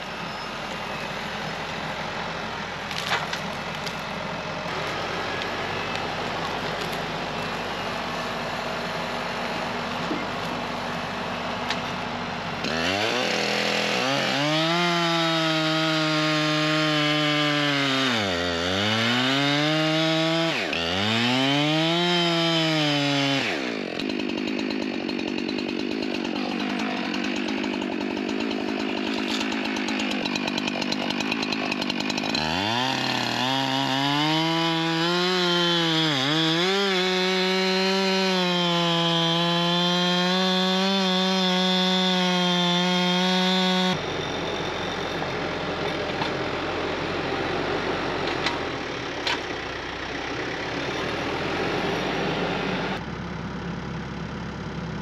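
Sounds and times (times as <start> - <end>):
chainsaw cutting through log: 0.0 - 53.1.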